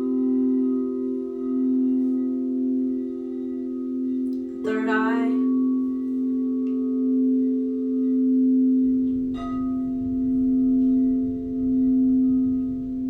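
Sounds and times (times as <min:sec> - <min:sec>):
singing bowl ringing: 0:00.0 - 0:13.0
singing bowl strike: 0:00.0 - 0:13.0.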